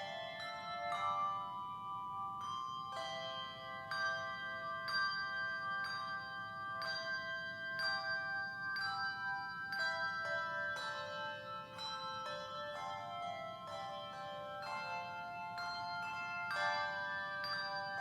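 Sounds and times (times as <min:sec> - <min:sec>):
handbells playing a hymn: 0:00.0 - 0:18.0.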